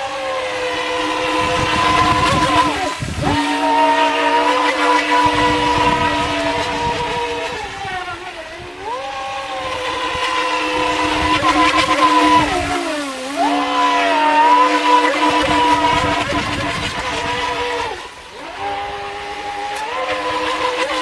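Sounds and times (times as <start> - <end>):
electric motor whining: 0.0 - 21.0
water rushing and spray: 0.0 - 21.0.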